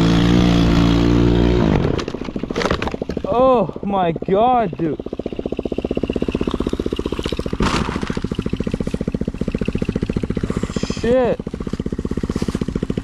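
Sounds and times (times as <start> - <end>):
atv engine idling: 0.0 - 13.0
rattling clatter: 1.7 - 3.3, 4.2 - 13.0.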